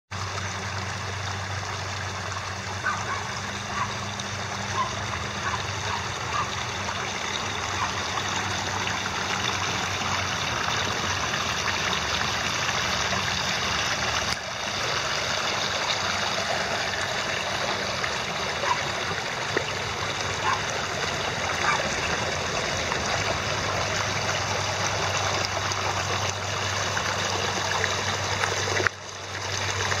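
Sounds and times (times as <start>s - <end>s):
waterfall splashing trickle: 0.2s - 30.0s.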